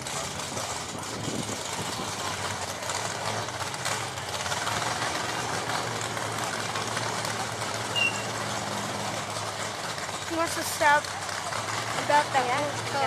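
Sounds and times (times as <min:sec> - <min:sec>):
car engine idling: 0:00.0 - 0:13.0
outdoor noise: 0:00.0 - 0:13.0.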